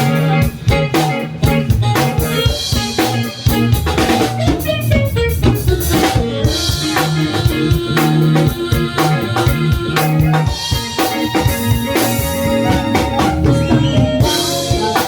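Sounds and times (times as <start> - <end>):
band playing pop-rock song: 0.0 - 15.0
drum kit beat: 0.0 - 15.0.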